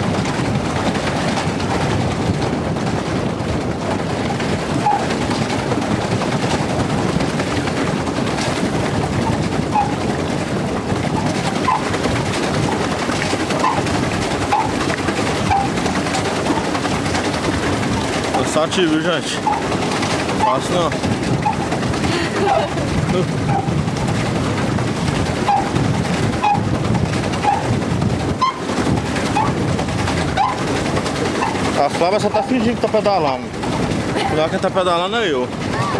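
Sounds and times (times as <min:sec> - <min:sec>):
rushing water from boat: 0:00.0 - 0:35.9.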